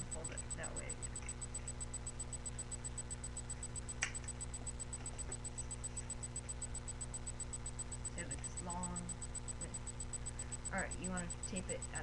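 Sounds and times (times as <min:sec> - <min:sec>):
electrical hum and hiss: 0:00.0 - 0:12.0
fast even ticking: 0:00.0 - 0:12.0.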